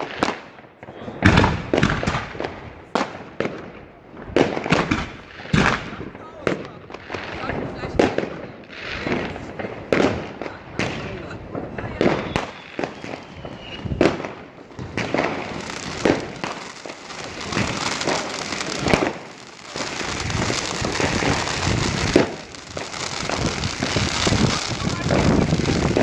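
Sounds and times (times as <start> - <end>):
firework bangs: 0.0 - 26.0
firework crackling: 0.0 - 26.0.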